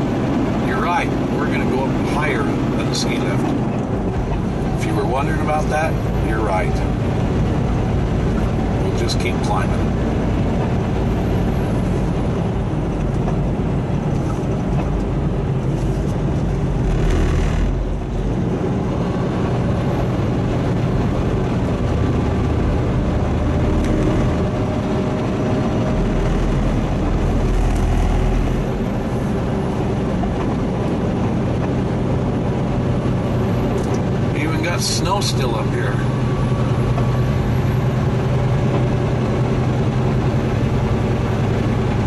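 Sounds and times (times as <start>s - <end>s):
road noise: 0.0s - 42.0s
truck diesel engine droning: 0.0s - 42.0s.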